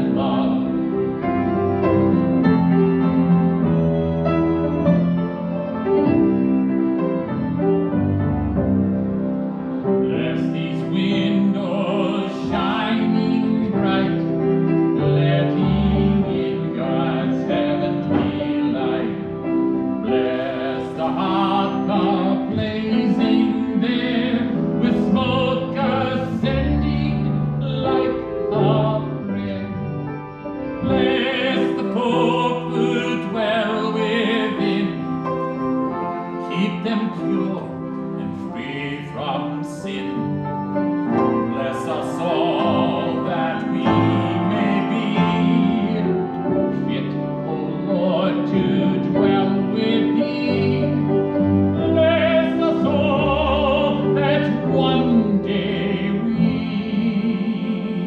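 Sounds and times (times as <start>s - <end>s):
person singing classical piece: 0.0s - 58.0s
sustained keyboard accompaniment: 0.0s - 58.0s.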